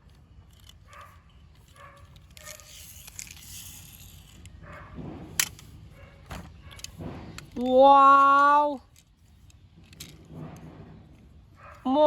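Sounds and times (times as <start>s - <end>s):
toy vehicles rustling and scraping: 0.0s - 12.0s.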